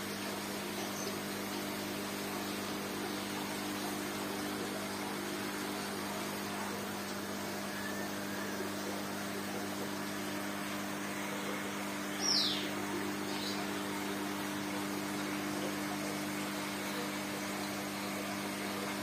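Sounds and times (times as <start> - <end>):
aquarium pumps humming: 0.0 - 19.0.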